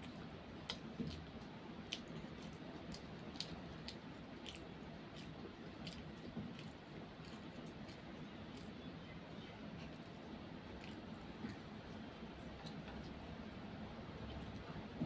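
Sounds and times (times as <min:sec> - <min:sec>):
child chewing noodles: 0:00.0 - 0:15.0.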